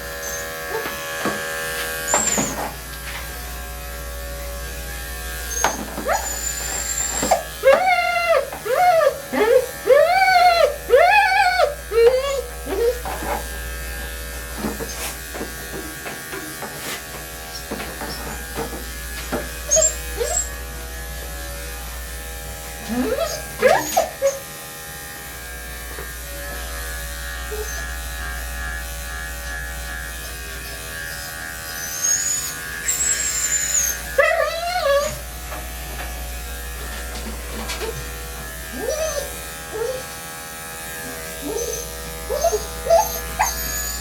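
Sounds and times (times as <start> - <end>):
electric clippers running: 0.0 - 44.0.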